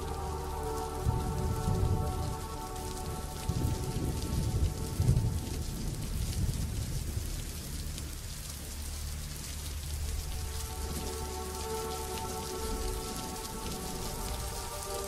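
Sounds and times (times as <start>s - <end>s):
rumbling of moving water: 0.0s - 15.0s.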